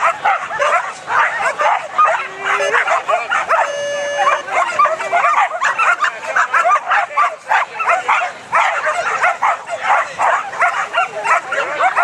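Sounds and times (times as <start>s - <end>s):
dogs barking excitedly: 0.0s - 12.0s.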